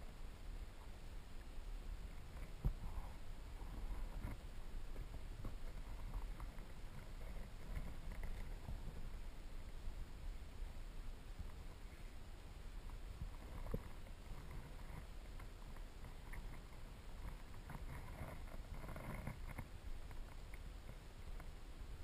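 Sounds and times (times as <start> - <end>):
small clicks and ticks: 0.0 - 9.7, 11.4 - 11.9, 12.7 - 21.6
underwater flowing water rumble: 0.0 - 22.0.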